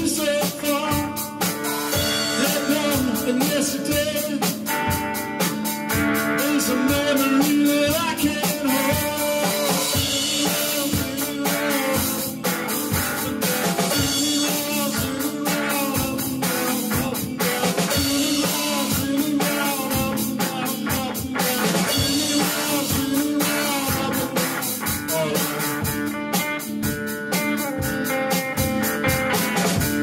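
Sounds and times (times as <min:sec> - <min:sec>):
drum kit beat: 0:00.0 - 0:30.0
electric guitar: 0:00.0 - 0:30.0
man singing: 0:00.0 - 0:30.0.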